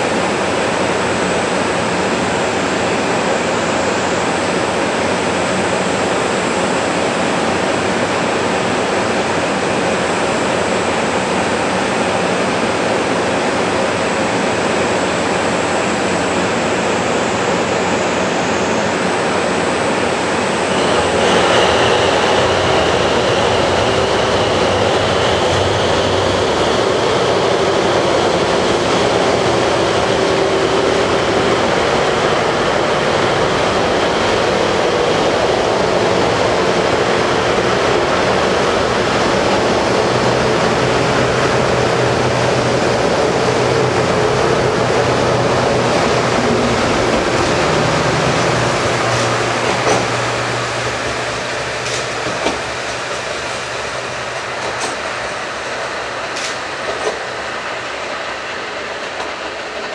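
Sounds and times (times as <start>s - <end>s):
diesel train engines: 0.0s - 59.9s
diesel train pulling away: 0.0s - 59.9s.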